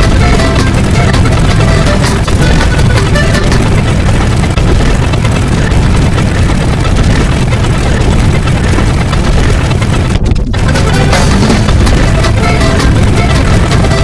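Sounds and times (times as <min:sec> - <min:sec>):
loud engine rumbling: 0:00.0 - 0:14.0.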